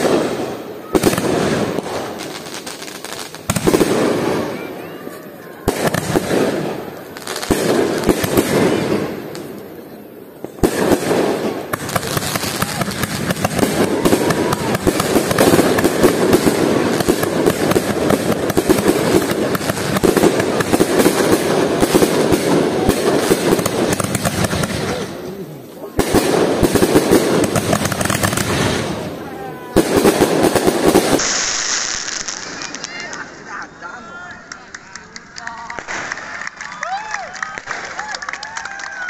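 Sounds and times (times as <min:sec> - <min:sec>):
fireworks cracking and banging: 0:00.0 - 0:39.0.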